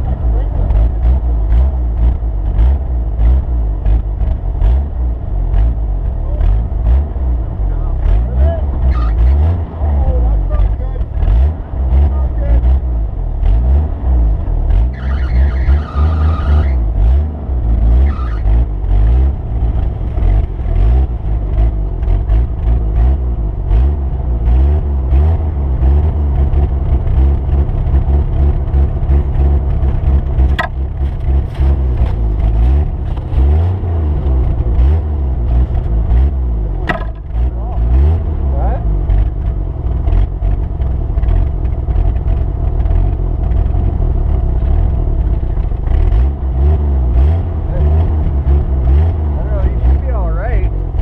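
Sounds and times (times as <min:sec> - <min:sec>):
vehicle engine revving: 0:00.0 - 0:51.0.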